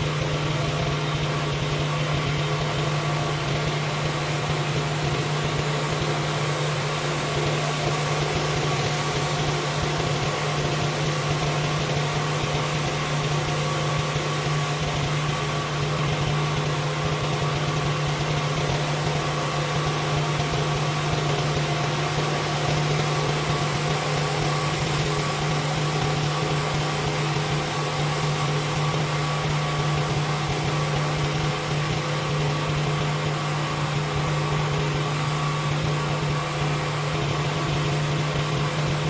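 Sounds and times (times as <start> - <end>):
pressure washer engine hum: 0.0 - 39.0.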